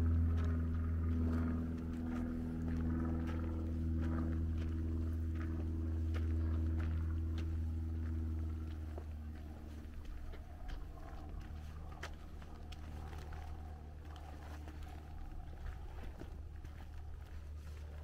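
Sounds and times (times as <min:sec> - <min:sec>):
footsteps on dirt trail: 0:00.0 - 0:18.0
low engine drone: 0:00.0 - 0:18.0.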